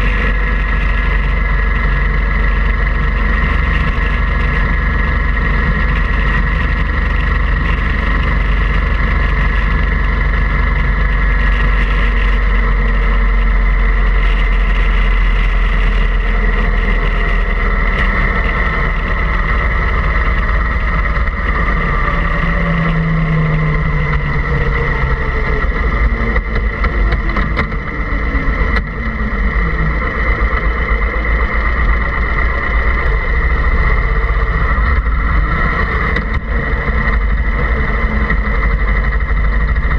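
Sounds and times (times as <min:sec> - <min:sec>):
engine-like drone with high whine: 0:00.0 - 0:39.9.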